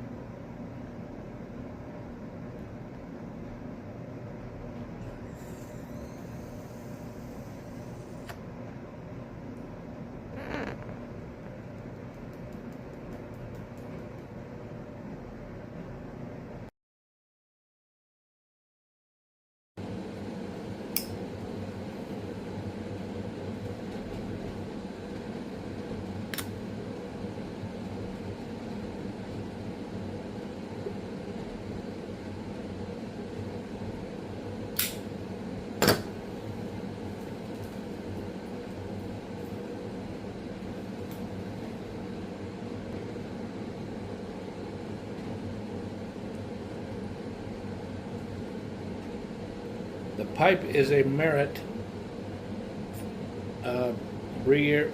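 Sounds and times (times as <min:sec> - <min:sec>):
fan mechanical hum: 0:00.0 - 0:16.7, 0:19.8 - 0:54.9.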